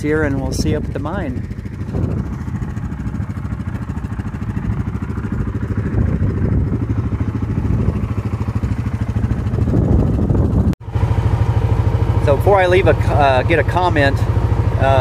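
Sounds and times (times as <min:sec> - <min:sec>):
utility vehicle engine running: 0:00.0 - 0:15.0.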